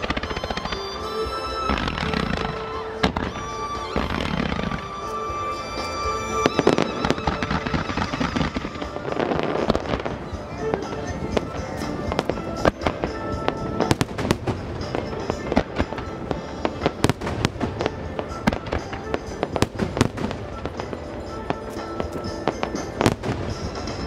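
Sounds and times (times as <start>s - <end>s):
fireworks bursting: 0.0s - 24.0s
music playing: 0.0s - 24.0s.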